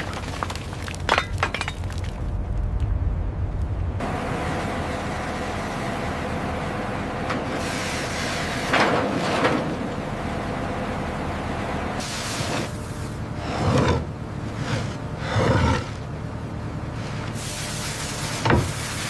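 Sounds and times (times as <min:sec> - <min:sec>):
heavy machinery humming: 0:02.3 - 0:19.0.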